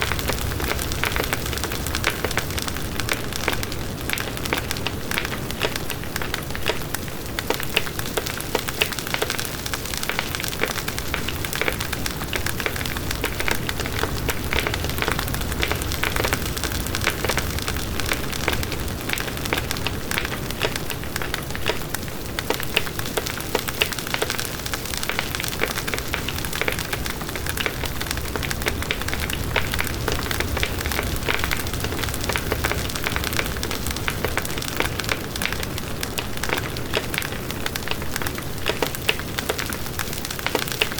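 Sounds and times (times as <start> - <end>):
campfire flames rumbling: 0.0 - 40.9
wood crackling and popping: 0.0 - 40.9.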